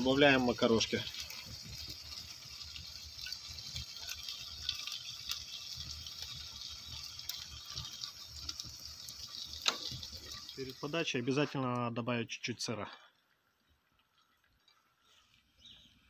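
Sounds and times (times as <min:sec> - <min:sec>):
burning wood crackling: 0:00.0 - 0:16.0
sauce bubbling in a pan: 0:00.0 - 0:16.0.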